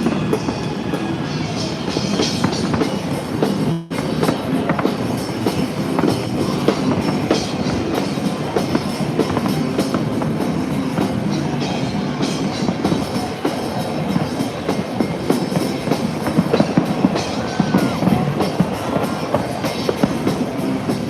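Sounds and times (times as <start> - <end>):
fireworks crackling and popping: 0.0 - 21.0
music: 0.0 - 21.0.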